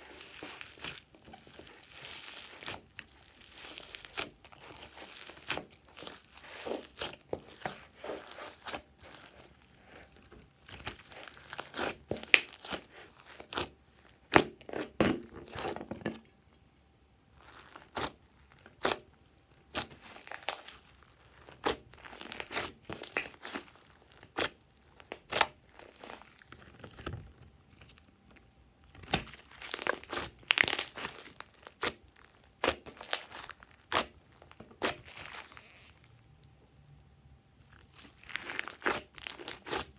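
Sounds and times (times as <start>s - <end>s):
hands squishing sticky slime: 0.0s - 15.8s, 17.4s - 27.0s, 29.0s - 36.0s, 37.8s - 39.9s.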